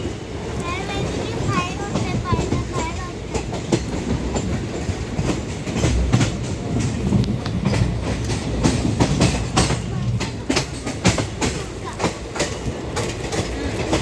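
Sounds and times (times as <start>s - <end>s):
train rumbling on track: 0.0s - 14.0s
wheels clattering over rail joints: 0.0s - 14.0s.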